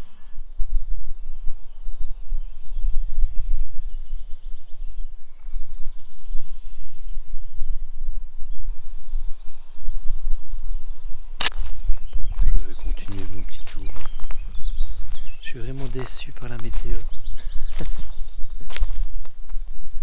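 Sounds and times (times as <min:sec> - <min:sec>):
faint songbird calls: 0:00.0 - 0:20.0
gusty wind on microphone: 0:00.0 - 0:20.0.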